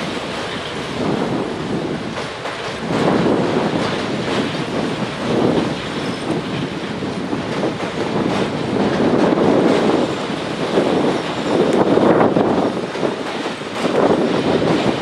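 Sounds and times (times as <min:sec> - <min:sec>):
train wagons rumbling on bridge: 0:00.0 - 0:15.0
wheel clatter over rail joints: 0:00.0 - 0:15.0.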